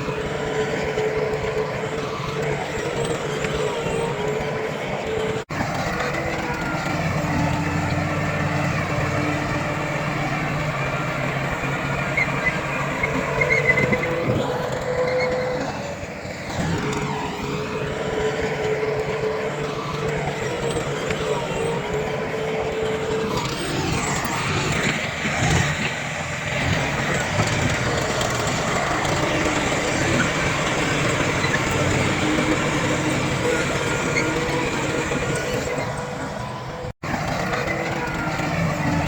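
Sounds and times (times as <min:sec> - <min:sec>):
heavy diesel machinery running: 0:00.0 - 0:39.0
steady whining tone: 0:00.0 - 0:39.0.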